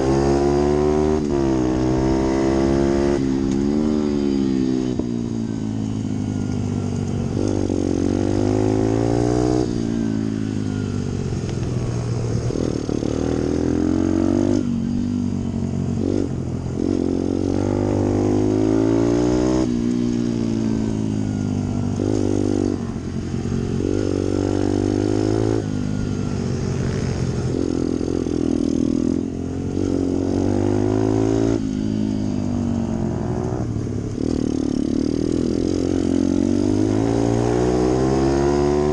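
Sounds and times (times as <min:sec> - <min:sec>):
small motorbike engine revving: 0:00.0 - 0:06.0, 0:06.8 - 0:38.9.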